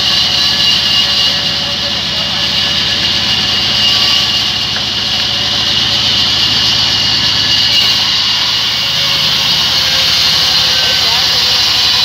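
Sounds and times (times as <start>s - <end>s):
band saw cutting log: 0.0s - 12.0s.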